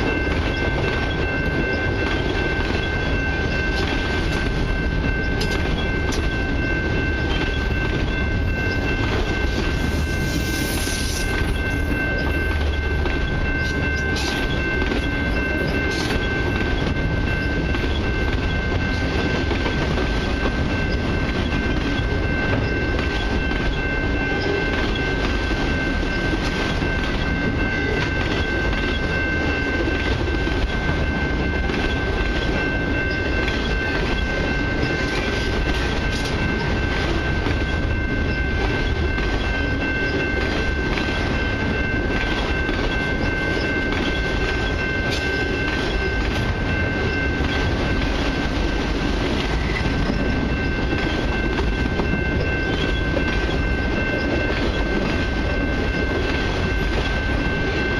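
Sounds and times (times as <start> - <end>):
freight train rumbling past: 0.0 - 57.9
train clank: 0.0 - 57.9.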